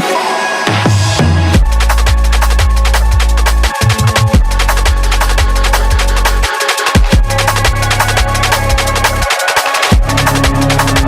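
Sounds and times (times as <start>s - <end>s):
drum and bass music: 0.0s - 11.0s.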